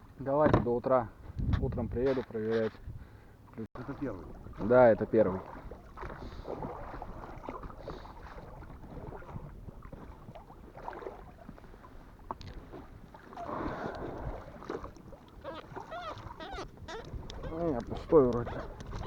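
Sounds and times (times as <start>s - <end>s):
water sloshing around boat: 0.0s - 19.0s
wind buffeting microphone: 1.1s - 3.2s, 4.0s - 19.0s.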